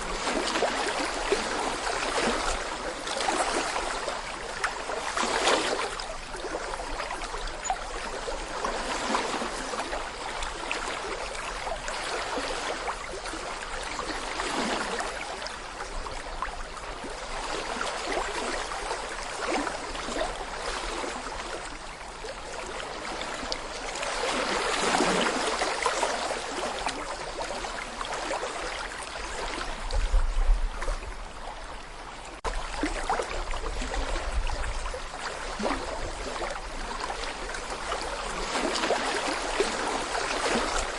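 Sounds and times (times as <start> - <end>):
brook babbling over stones: 0.0 - 40.9.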